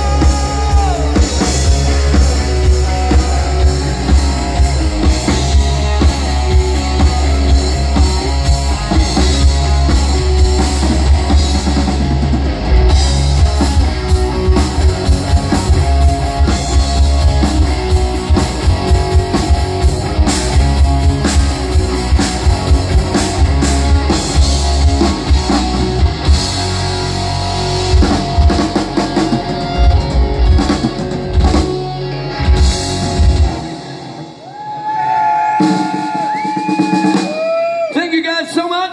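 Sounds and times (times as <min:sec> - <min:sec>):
rock band playing loud: 0:00.0 - 0:38.9.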